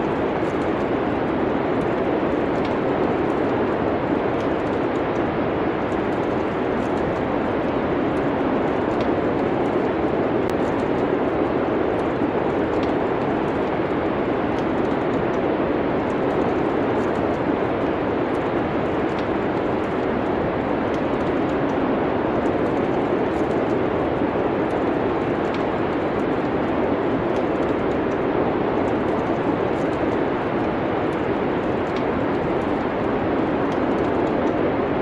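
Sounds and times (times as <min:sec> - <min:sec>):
snowstorm wind: 0:00.0 - 0:35.0
wood fire crackling: 0:00.0 - 0:35.0.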